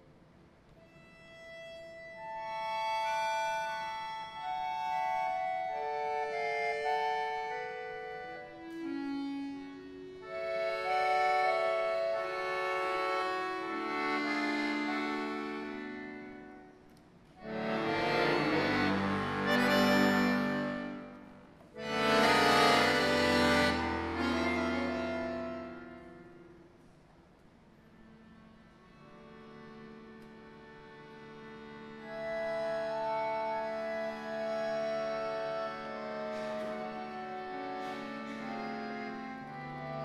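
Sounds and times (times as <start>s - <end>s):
button accordion chords: 0.8s - 26.8s, 28.0s - 40.0s.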